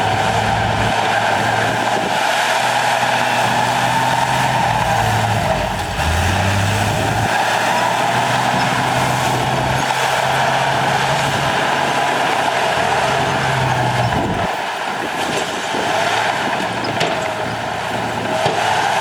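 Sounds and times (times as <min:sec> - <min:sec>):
heavy diesel machinery running: 0:00.0 - 0:19.0
clattering mechanical noise: 0:03.3 - 0:18.6.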